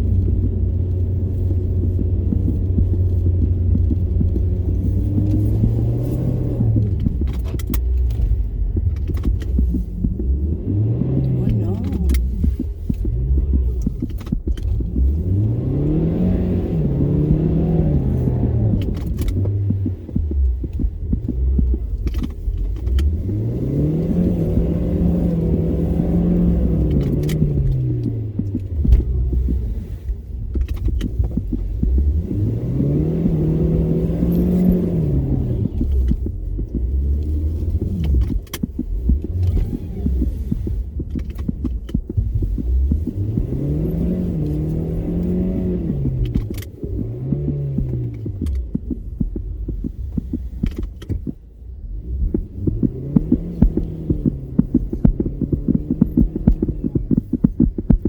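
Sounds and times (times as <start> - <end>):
car engine revving: 0.0 - 58.0
sharp clicks: 0.0 - 58.0.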